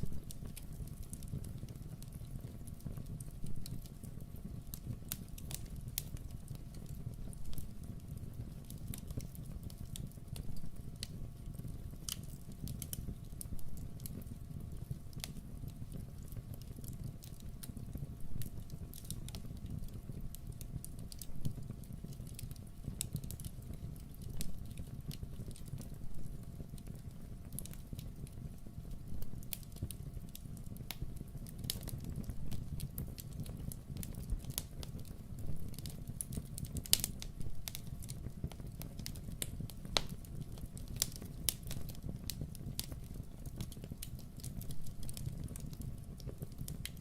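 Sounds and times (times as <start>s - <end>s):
fire pops and snaps: 0.0s - 47.0s
low rumble of flames: 0.0s - 47.0s.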